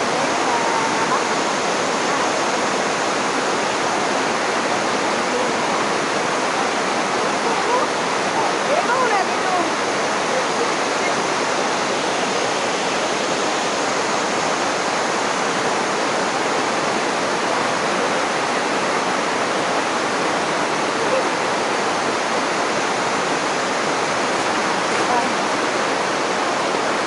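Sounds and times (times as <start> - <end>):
river rushing over rocks: 0.0 - 27.0.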